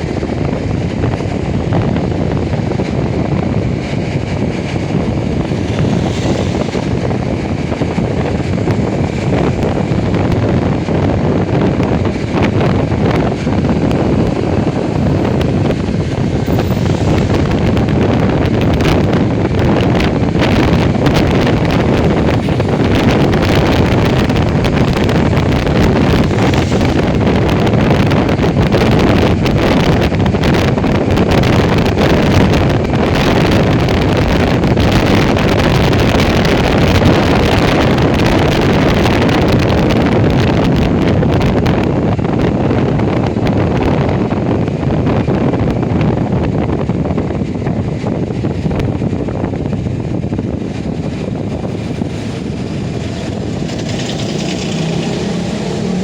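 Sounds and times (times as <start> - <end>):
motorcycle running noise: 0.0 - 56.0
wind buffeting microphone: 0.0 - 56.0.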